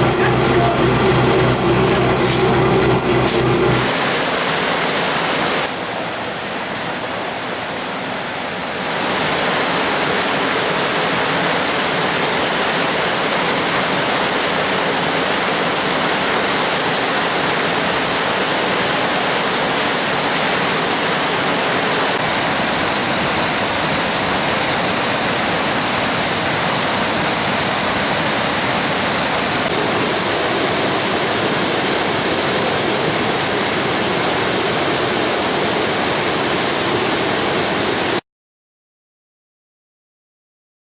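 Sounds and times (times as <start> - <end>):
water rushing: 0.0 - 38.2.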